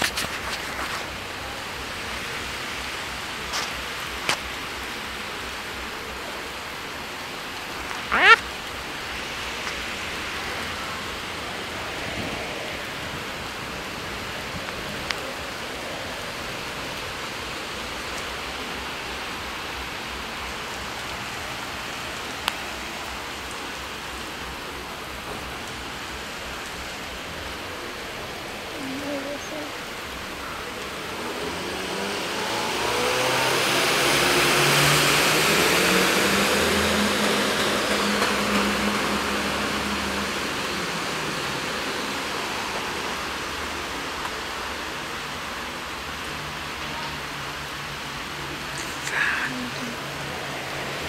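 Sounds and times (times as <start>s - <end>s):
heavy rain on flooded street: 0.0s - 51.0s.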